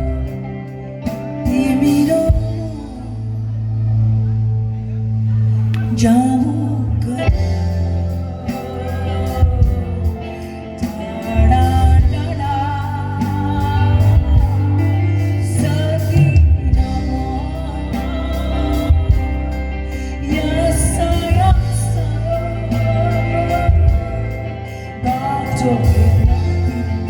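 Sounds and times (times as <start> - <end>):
drums: 0.0 - 27.0
heavy bass line: 0.0 - 27.0
person singing: 0.0 - 27.0.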